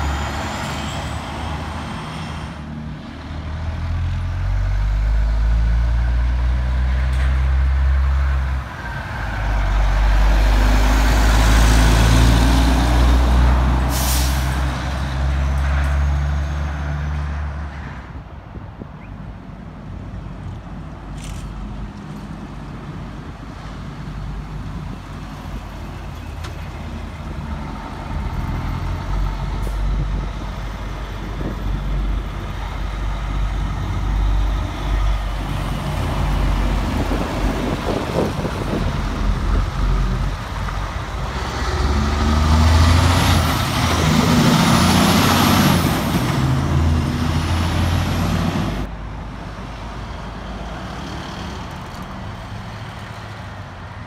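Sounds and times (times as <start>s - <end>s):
truck diesel engine rumbling past: 0.0s - 18.2s, 21.7s - 54.0s.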